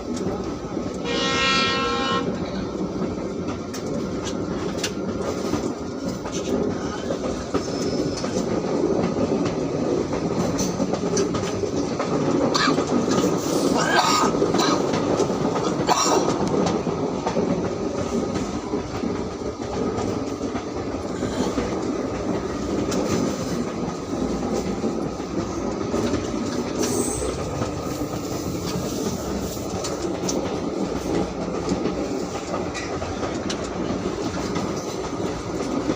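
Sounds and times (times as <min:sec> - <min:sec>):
train wheels rumbling: 0:00.0 - 0:35.9.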